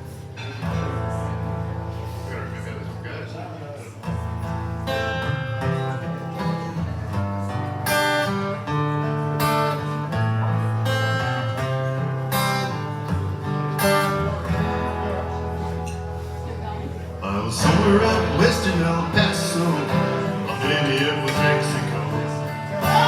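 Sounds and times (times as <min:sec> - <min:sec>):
acoustic guitar strumming chords: 0:04.0 - 0:23.0.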